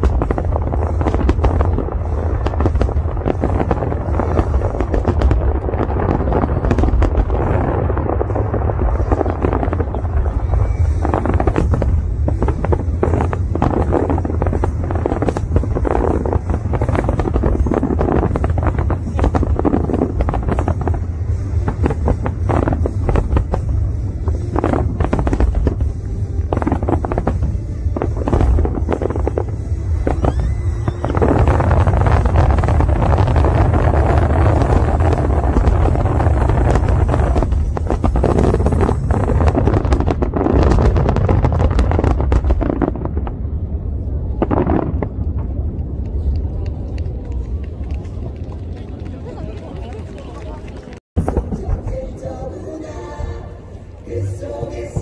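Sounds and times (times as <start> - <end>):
music playing: 0.0 - 43.1, 49.7 - 55.0
deep steady rumble: 0.0 - 55.0
fireworks bangs and crackles: 0.0 - 55.0.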